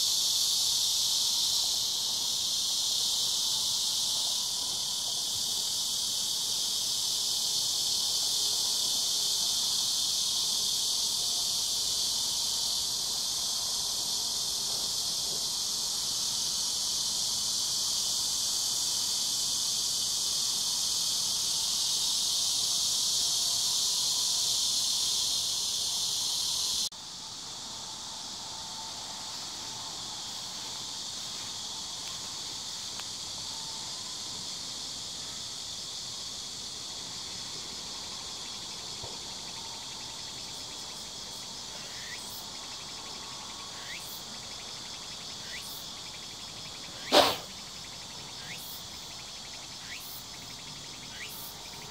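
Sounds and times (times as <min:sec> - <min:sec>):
insects chorus: 0:00.0 - 0:51.9.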